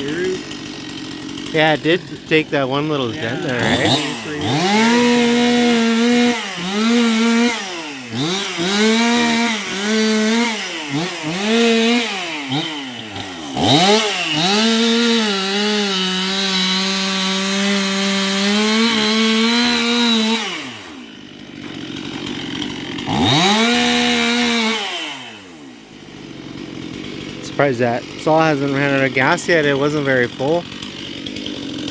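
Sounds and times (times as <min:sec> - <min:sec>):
chainsaw revving: 0:00.0 - 0:31.9.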